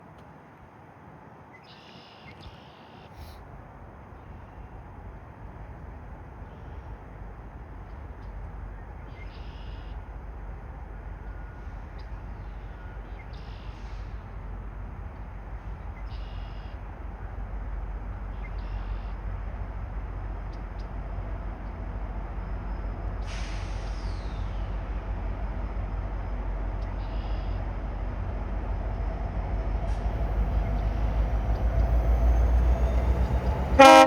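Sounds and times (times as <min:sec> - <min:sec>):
train rumbling: 0:03.2 - 0:34.0.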